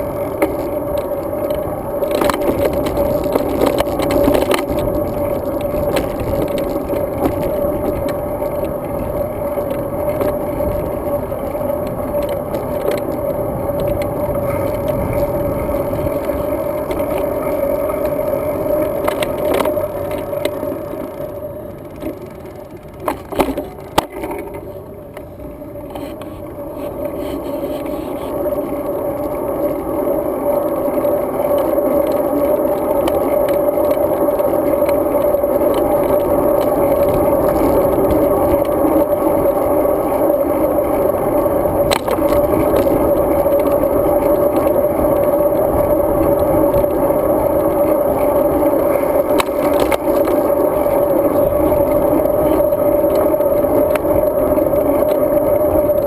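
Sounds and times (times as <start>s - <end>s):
bike tyre and wind noise: 0.0s - 56.0s.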